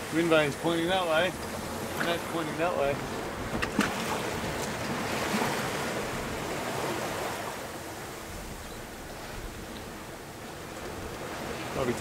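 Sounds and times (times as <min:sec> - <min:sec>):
sea splashing along a hull: 0:00.0 - 0:12.0
wind: 0:00.0 - 0:12.0.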